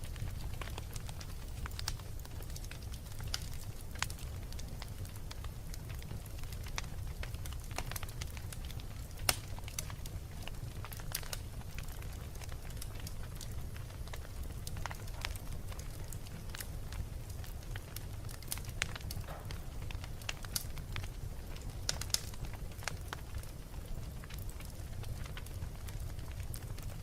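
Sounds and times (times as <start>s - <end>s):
low rumble of burning: 0.0s - 27.0s
wood fire crackling and popping: 0.0s - 27.0s.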